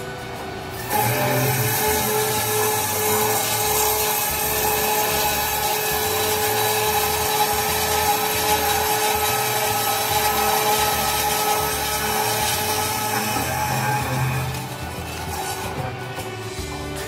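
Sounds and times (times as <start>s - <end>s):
circular saw cutting metal pipe: 0.7s - 17.0s.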